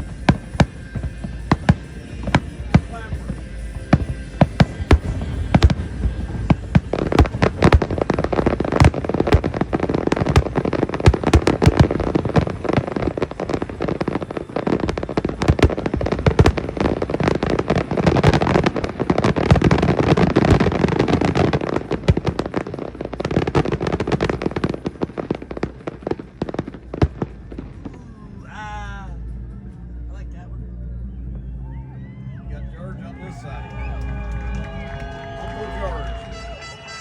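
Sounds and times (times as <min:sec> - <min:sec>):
fireworks bangs and crackles: 0:00.0 - 0:28.2, 0:33.8 - 0:37.0.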